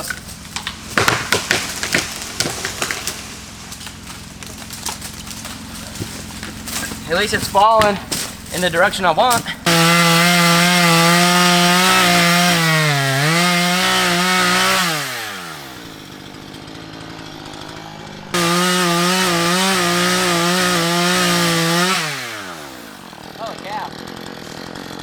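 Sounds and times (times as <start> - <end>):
chainsaw revving and idling: 0.0 - 25.0.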